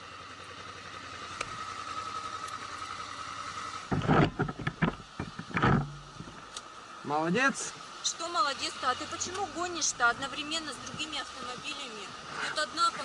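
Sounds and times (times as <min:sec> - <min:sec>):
motorcycle engine running: 0:00.0 - 0:07.0, 0:07.8 - 0:13.0
street traffic: 0:00.0 - 0:13.0.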